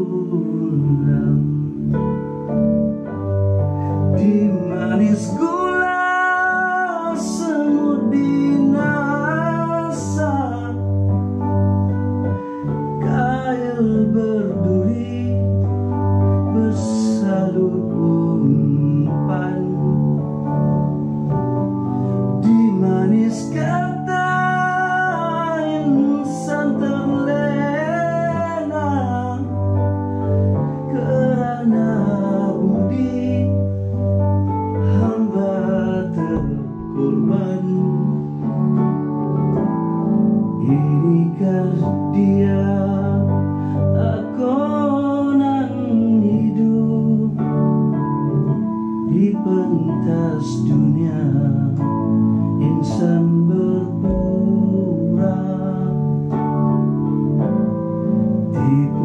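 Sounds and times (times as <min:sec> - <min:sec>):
slow ballad on electronic keyboard: 0:00.0 - 0:59.0.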